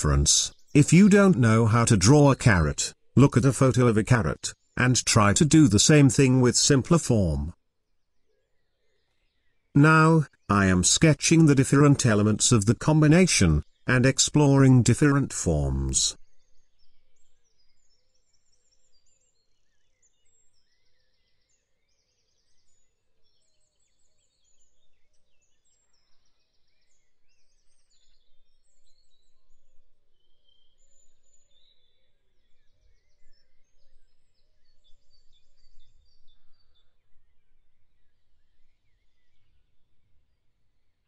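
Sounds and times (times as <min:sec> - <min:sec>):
faint birdsong chirps and trills: 0:00.0 - 0:00.9, 0:03.8 - 0:06.1, 0:06.7 - 0:11.2, 0:13.4 - 0:13.9, 0:15.6 - 0:41.0.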